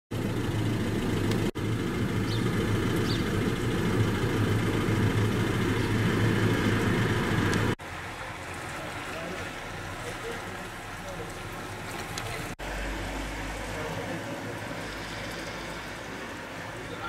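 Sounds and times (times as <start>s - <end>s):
vehicle engine idling: 0.1s - 17.0s.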